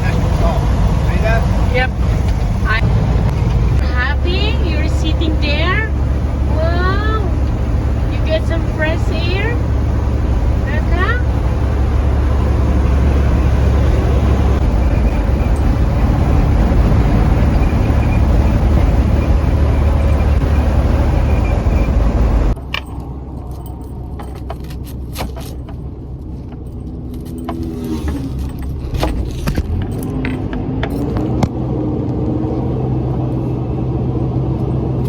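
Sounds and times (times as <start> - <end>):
truck road and engine rumble: 0.0 - 35.0.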